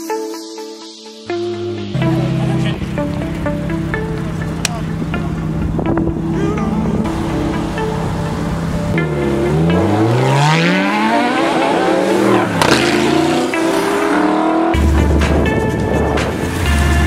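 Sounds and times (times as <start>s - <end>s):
sports car engine revving: 2.0s - 17.0s.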